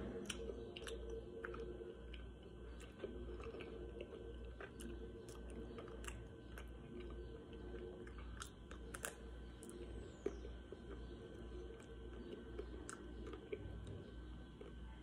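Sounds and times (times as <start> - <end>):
biting ice cream bar: 0.0 - 14.8
wet chewing and lip smacks: 0.2 - 14.8.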